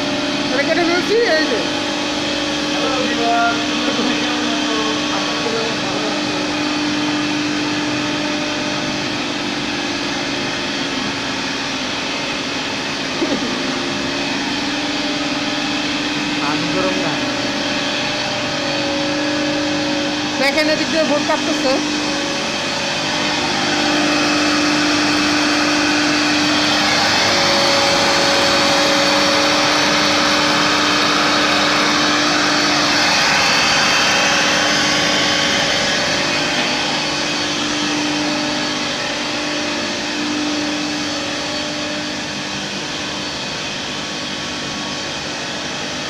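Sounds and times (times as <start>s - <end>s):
cnc router cutting wood: 0.0s - 46.0s
dust extraction blower hiss: 0.0s - 46.0s.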